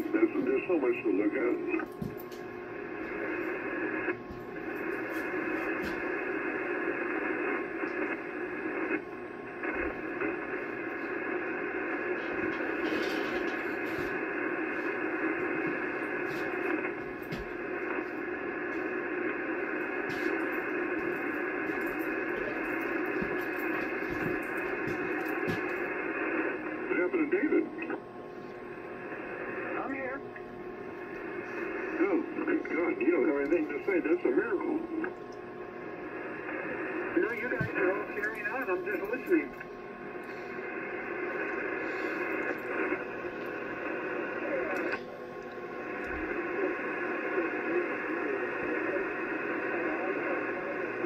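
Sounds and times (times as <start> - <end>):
radio static hiss: 0.0 - 51.0
static crackles: 0.0 - 51.0.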